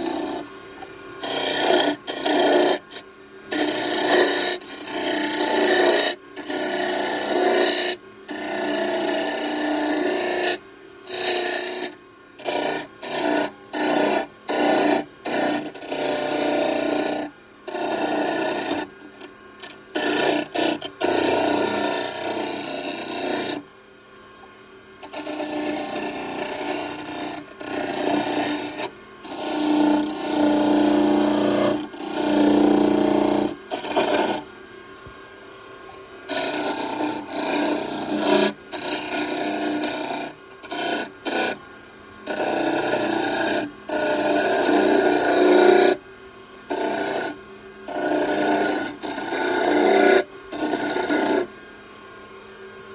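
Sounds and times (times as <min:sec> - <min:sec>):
lathe tool scraping wood: 0:00.0 - 0:00.6, 0:01.2 - 0:23.6, 0:25.0 - 0:34.5, 0:36.3 - 0:41.6, 0:42.2 - 0:46.0, 0:46.7 - 0:51.5.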